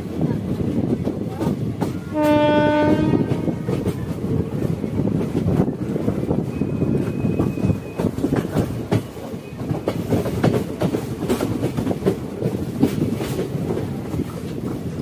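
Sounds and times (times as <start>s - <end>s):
train running rumble: 0.0s - 15.0s
train wheels clattering over joints: 0.0s - 15.0s.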